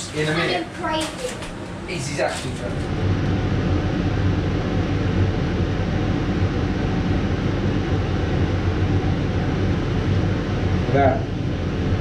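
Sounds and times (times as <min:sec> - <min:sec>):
kitchen fan whirring: 0:00.0 - 0:12.0
low hum: 0:01.2 - 0:12.0.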